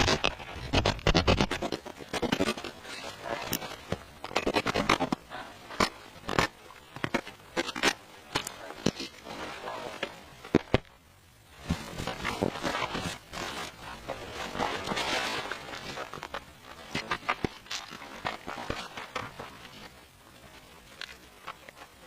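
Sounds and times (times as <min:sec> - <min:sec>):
scraping and scratching: 0:00.0 - 0:10.9, 0:11.5 - 0:22.0.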